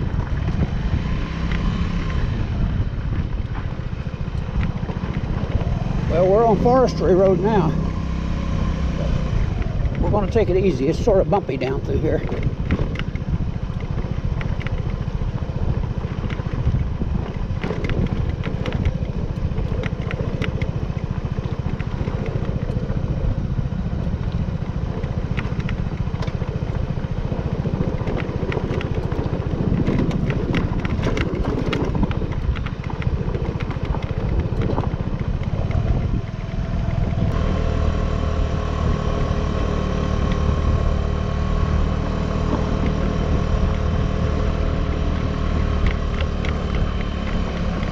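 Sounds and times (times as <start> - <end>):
clatters and rattles from bumps: 0.0 - 7.9, 9.0 - 37.6, 40.2 - 47.9
scooter engine running: 0.0 - 47.9.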